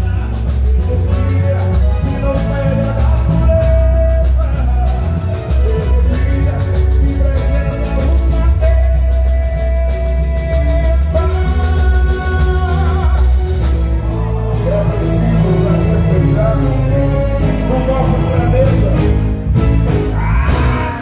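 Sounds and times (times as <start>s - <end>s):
man singing into microphone: 0.0s - 19.3s, 20.1s - 21.0s
amplified band with heavy bass: 0.0s - 21.0s.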